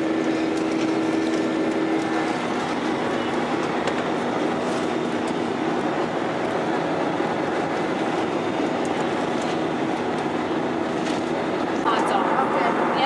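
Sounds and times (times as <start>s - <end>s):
jet engine drone: 0.0s - 13.0s
steady hum: 0.0s - 13.0s.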